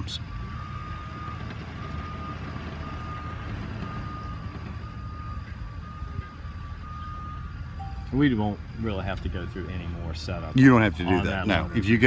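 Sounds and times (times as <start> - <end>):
diesel engine idling: 0.0 - 12.0
faint beeping: 0.0 - 12.0.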